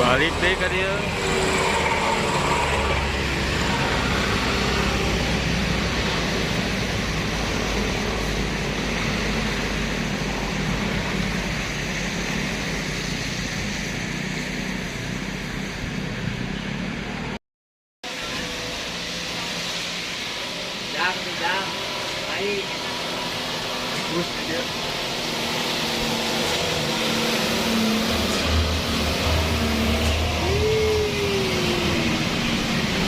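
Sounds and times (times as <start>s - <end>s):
heavy vehicle engine rumble: 0.0s - 17.4s, 18.1s - 33.0s.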